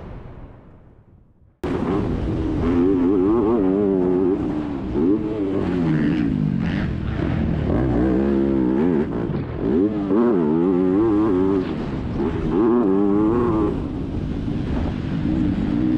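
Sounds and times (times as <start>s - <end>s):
motocross bike engine revving: 1.6s - 15.9s.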